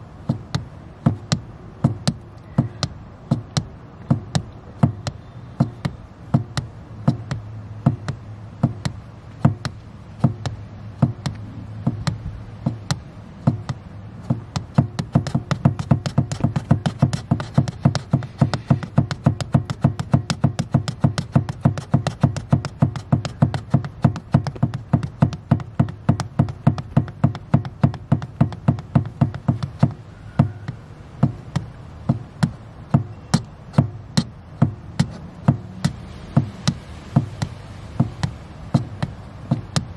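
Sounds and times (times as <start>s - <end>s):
foot tapping accelerator pedal: 0.0s - 39.9s
low steady hum: 0.0s - 39.9s.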